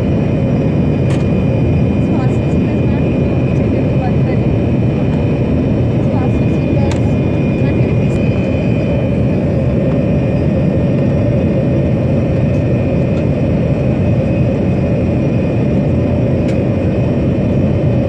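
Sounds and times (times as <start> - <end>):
jet engine and airflow rush: 0.0 - 18.0.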